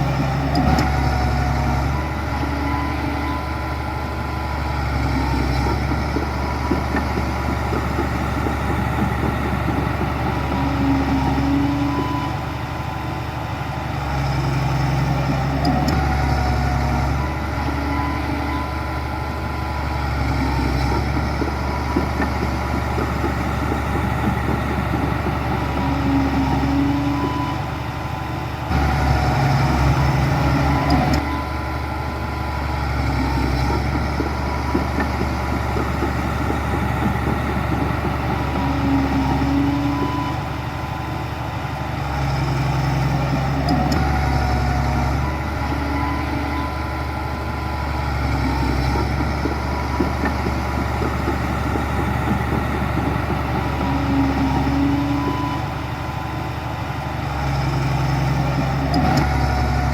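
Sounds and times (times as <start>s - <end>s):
bulldozer diesel engine working: 0.0s - 59.9s.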